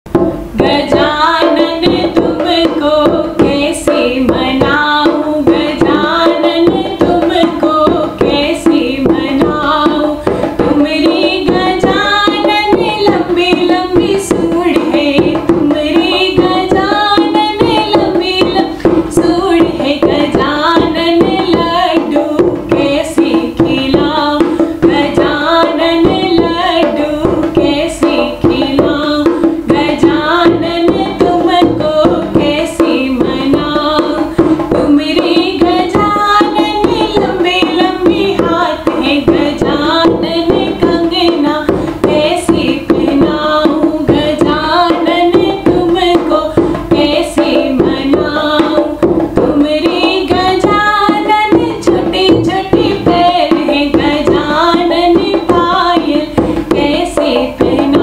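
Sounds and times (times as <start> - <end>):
hand drum strokes: 0.1 - 58.0
woman singing devotional song: 0.1 - 58.0.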